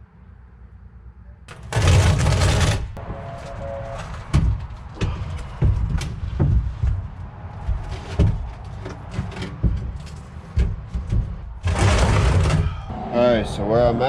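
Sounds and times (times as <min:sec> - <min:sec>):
heavy knocks and thuds on metal: 0:01.5 - 0:12.9.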